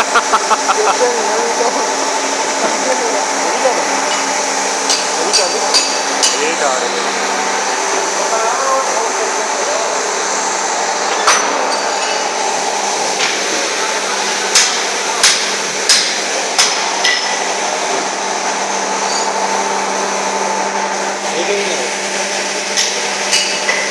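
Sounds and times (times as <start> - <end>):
factory machinery hum: 0.0 - 23.9.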